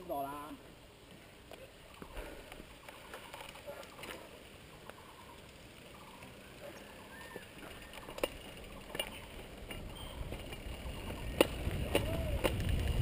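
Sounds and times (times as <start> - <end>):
bike tyre and wind rumble: 0.7 - 13.0
bike clicks and rattles: 1.4 - 13.0.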